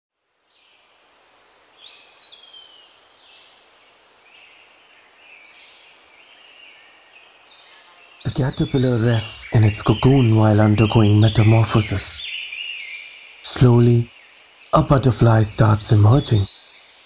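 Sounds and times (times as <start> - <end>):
soft background hiss: 0.2 - 17.0
birds calling: 1.5 - 17.0.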